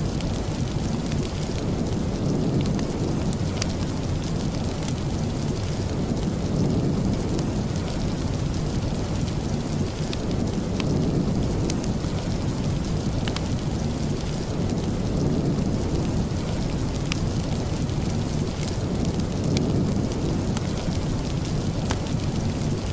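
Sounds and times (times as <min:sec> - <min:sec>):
steady rain: 0:00.0 - 0:22.9.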